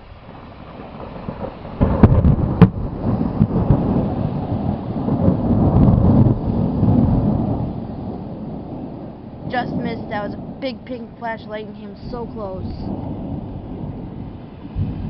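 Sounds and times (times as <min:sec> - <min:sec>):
low thunder rumble: 0:00.0 - 0:15.0
thunder cracks: 0:00.0 - 0:15.0.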